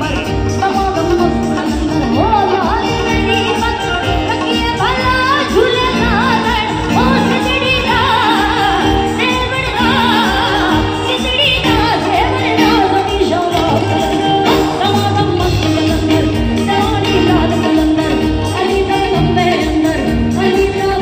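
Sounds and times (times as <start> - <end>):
drums: 0.0 - 21.0
keyboard: 0.0 - 21.0
woman singing through pa: 0.0 - 21.0.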